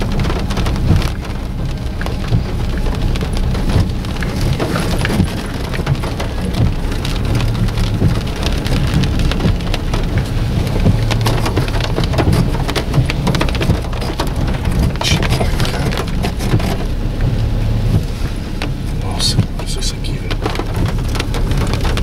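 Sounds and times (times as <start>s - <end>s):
car driving on dirt track: 0.0s - 22.0s
rain pattering on car roof: 0.0s - 22.0s.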